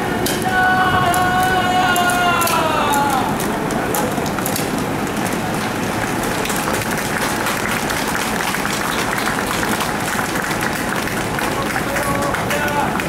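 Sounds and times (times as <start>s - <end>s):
crowd applauding: 0.3s - 13.0s.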